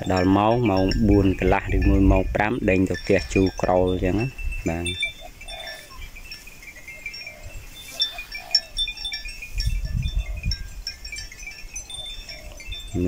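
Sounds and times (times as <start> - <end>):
cattle bells tinkling: 0.0 - 13.0.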